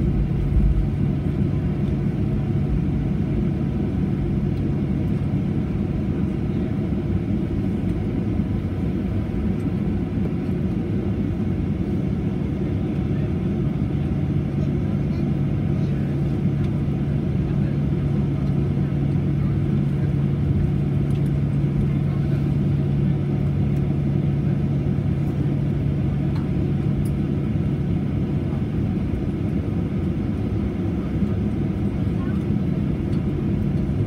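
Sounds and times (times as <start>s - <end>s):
airplane engine rumble and hum: 0.0s - 34.0s.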